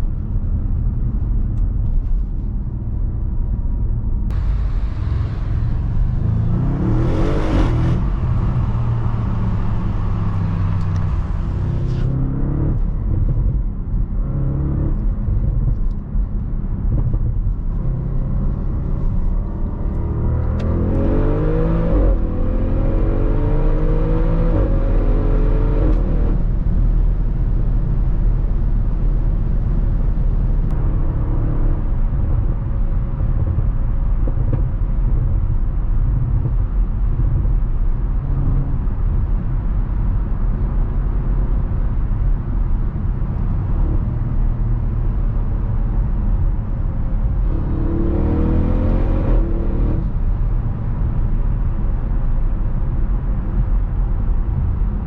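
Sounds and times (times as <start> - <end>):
car engine accelerating: 4.3 - 55.0.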